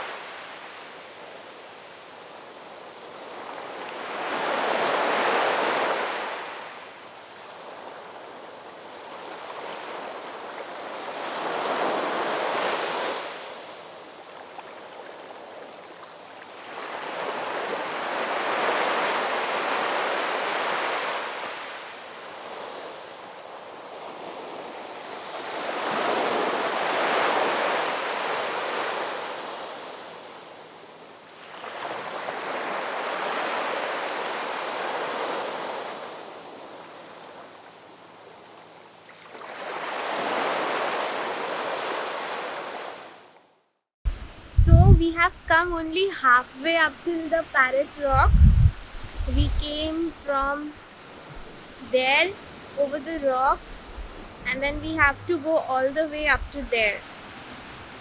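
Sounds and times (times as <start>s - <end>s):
waves breaking on beach: 0.0s - 43.5s, 44.1s - 58.0s.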